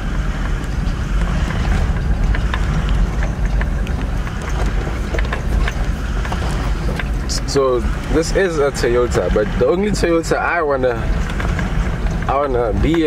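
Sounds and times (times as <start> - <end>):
knocks and rattles: 0.0 - 13.0
low engine drone: 0.0 - 13.0
road and wind noise: 0.0 - 13.0.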